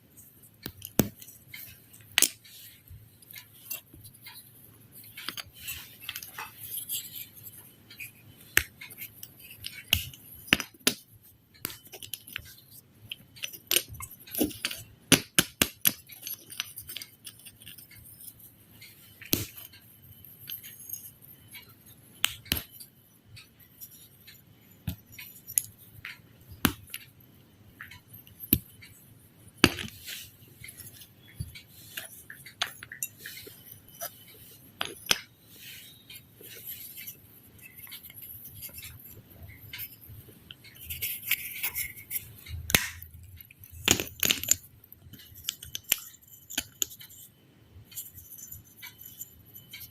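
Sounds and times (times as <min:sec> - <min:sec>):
clicks and taps of small objects: 0:00.2 - 0:04.4, 0:05.0 - 0:27.2, 0:27.8 - 0:29.0, 0:29.6 - 0:47.3.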